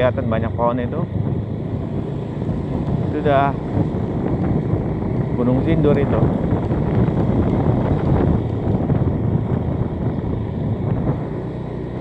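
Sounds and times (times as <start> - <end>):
motorcycle engine: 0.0 - 12.0
wind buffeting microphone: 0.0 - 12.0.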